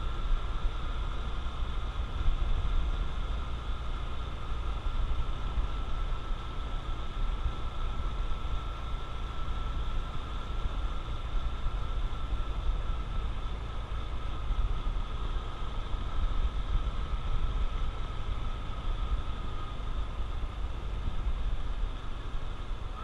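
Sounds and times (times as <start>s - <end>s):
motorcycle engine running: 0.0s - 23.0s
steady thin whine: 0.0s - 23.0s.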